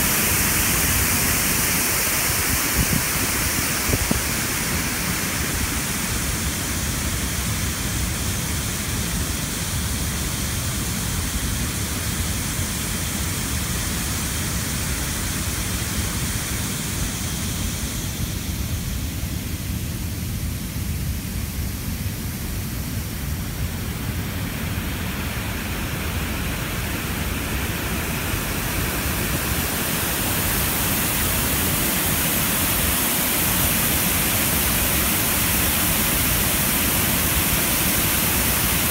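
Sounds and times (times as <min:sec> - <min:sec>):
water rushing over spillway: 0:00.0 - 0:20.1, 0:21.1 - 0:38.9.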